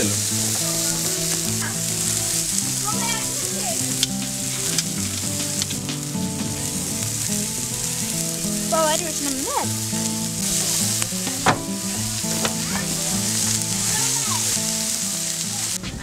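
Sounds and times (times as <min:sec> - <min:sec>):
meat sizzling in a pan: 0:00.0 - 0:16.0
sharp pops and crackles: 0:00.0 - 0:16.0.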